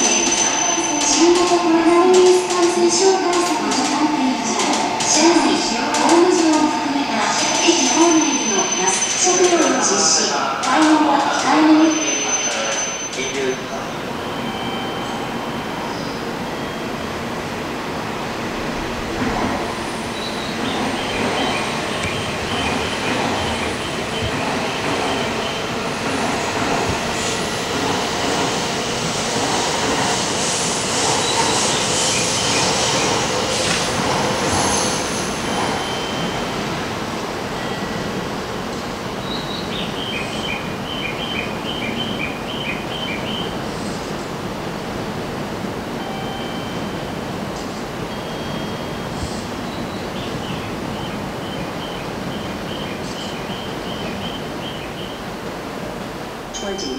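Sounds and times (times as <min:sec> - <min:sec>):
train moving slowly: 0:00.0 - 0:56.9.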